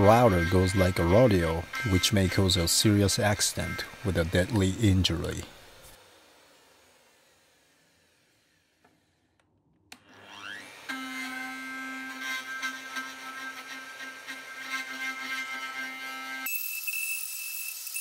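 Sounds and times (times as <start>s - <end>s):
router motor whining: 0.0s - 18.0s.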